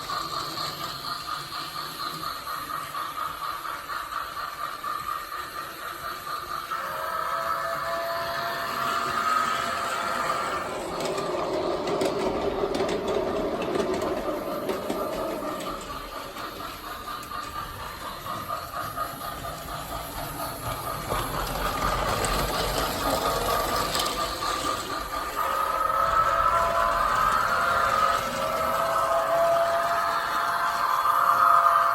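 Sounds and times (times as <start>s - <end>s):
toy train motor whirring: 0.0s - 31.9s
toy train wheels rattling: 0.0s - 31.9s.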